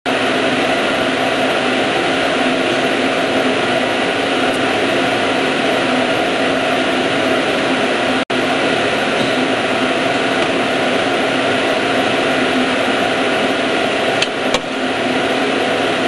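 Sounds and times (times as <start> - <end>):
ventilation fan whooshing hum: 0.1 - 16.0.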